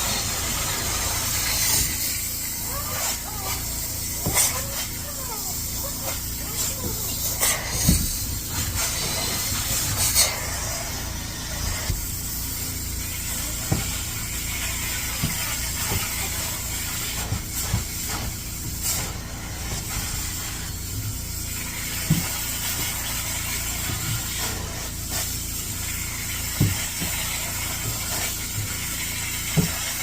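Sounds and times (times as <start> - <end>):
cleaning machine hiss and hum: 0.0 - 30.0.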